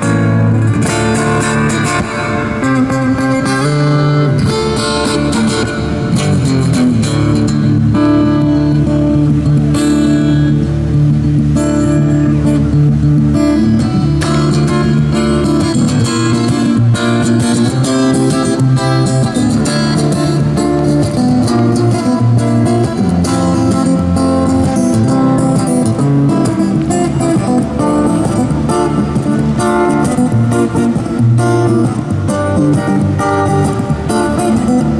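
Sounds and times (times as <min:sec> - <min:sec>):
acoustic guitar melody: 0:00.0 - 0:34.9.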